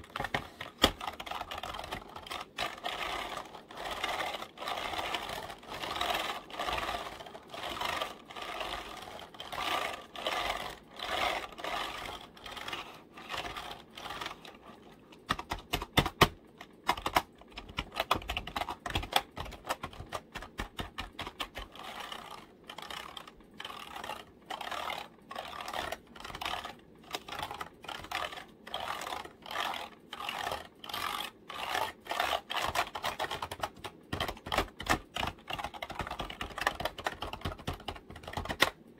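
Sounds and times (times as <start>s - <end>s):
typing on computer keyboard: 0.0s - 38.9s.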